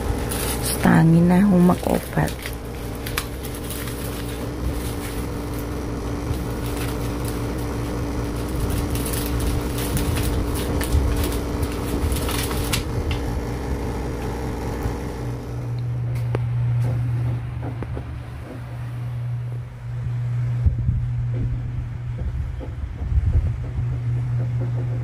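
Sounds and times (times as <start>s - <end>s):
low rumble: 0.0s - 25.0s
machine hum with steady tones: 0.0s - 25.0s.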